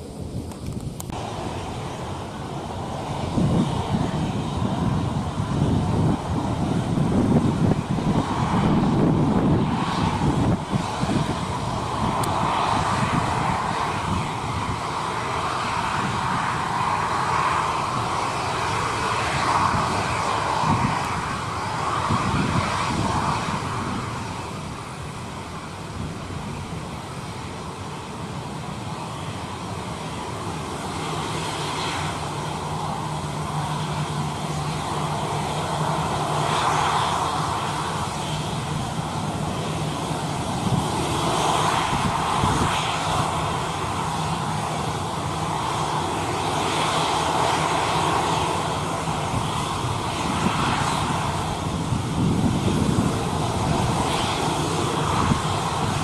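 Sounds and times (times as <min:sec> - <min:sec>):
jet engines roaring: 0:00.0 - 0:56.0
wind buffeting microphone: 0:00.0 - 0:56.0.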